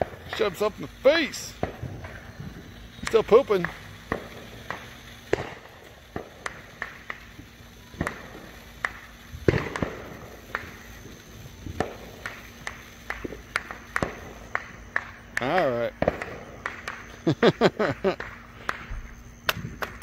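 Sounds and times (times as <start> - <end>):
firecrackers popping: 0.0 - 20.0.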